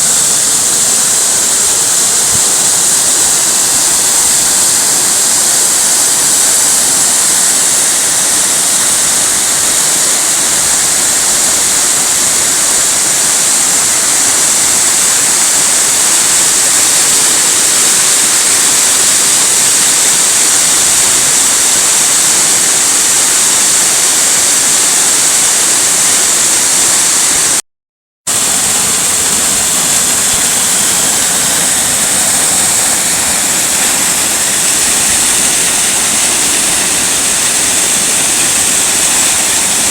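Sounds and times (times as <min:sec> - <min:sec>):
waterfall rushing: 0:00.0 - 0:27.6, 0:28.3 - 0:39.9.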